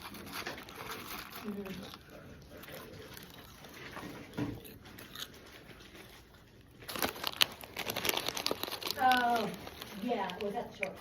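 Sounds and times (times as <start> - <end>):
person chewing crunchy snacks: 0.0 - 11.0.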